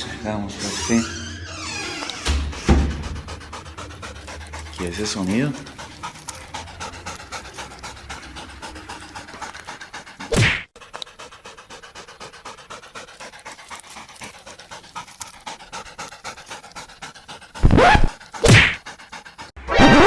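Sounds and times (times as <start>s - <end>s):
rhythmic panting: 0.0s - 19.6s.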